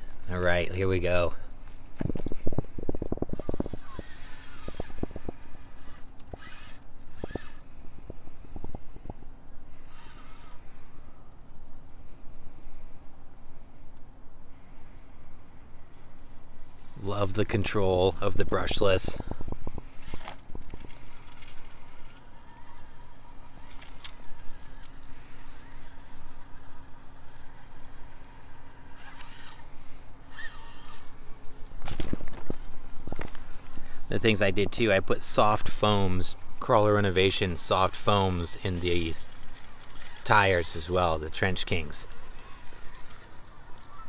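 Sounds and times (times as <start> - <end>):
faint motor whine: 0.0 - 44.0.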